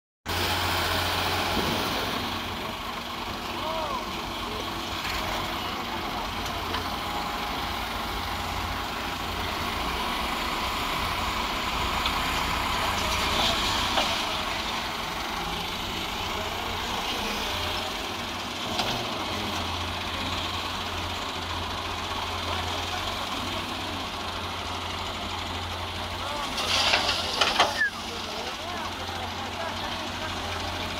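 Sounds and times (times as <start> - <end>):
excavator diesel engine running: 0.3 - 30.9.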